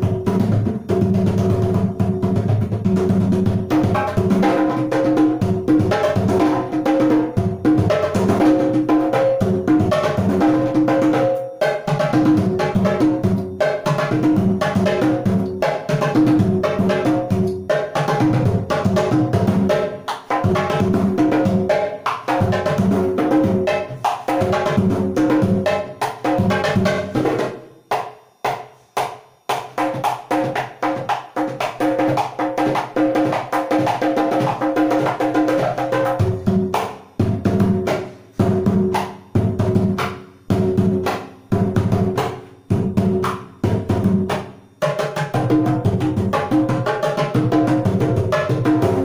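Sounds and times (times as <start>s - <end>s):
hand drumming on congas: 0.0s - 49.0s.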